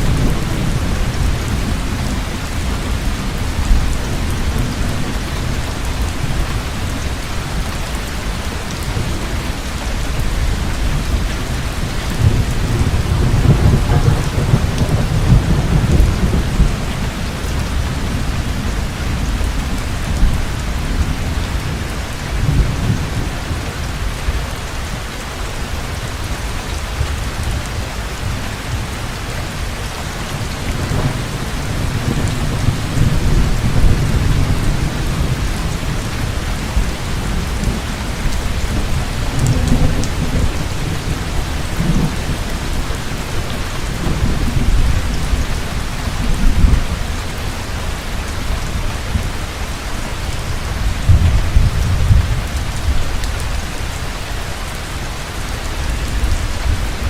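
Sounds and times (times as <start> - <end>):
thunder rumbling: 0.0 - 24.4, 26.8 - 54.0
heavy rain falling: 0.0 - 57.0.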